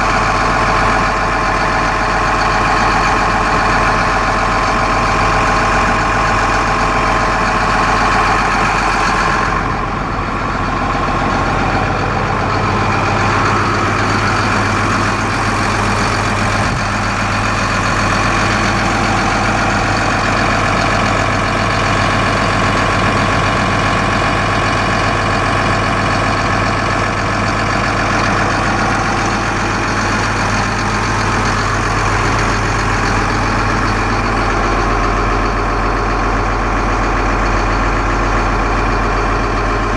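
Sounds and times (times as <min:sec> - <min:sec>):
excavator diesel engine idling: 0:00.0 - 0:39.9.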